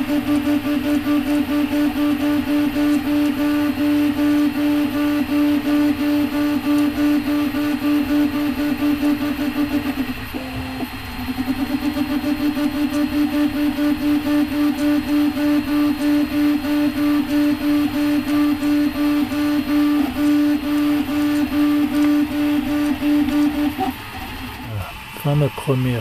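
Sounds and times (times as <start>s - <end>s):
printer stepper motors whining: 0.0s - 26.0s.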